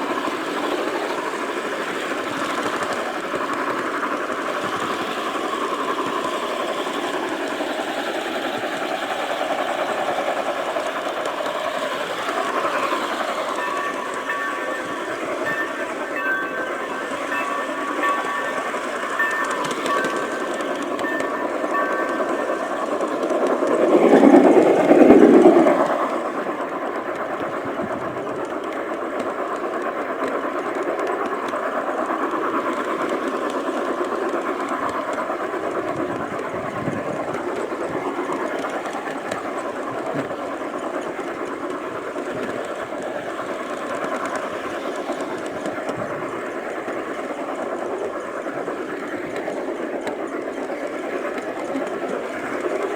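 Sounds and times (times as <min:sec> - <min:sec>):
model train wheels rattling on track: 0:00.0 - 0:52.9.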